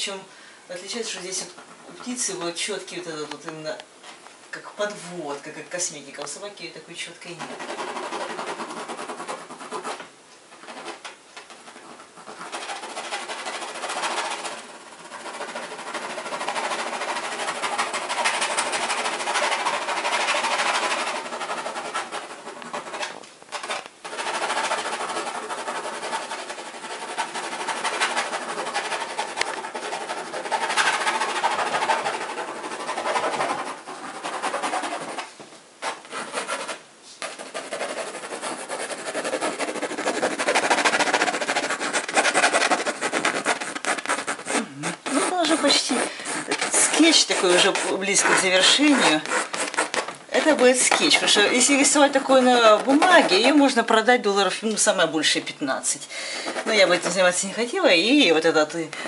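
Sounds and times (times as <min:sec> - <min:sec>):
pencil scratching on canvas: 0:07.0 - 0:58.8.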